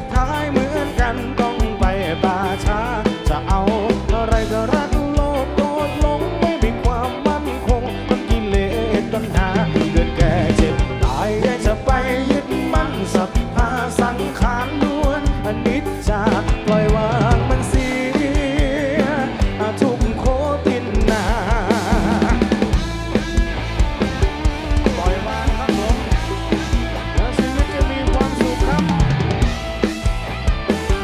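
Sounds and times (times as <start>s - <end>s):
drum kit beat: 0.0s - 31.0s
wavering lead melody: 0.0s - 31.0s.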